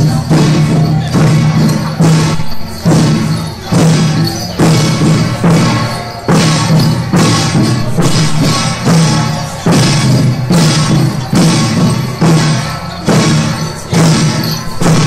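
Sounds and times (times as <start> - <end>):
drum and cymbal processional rhythm: 0.0 - 15.0.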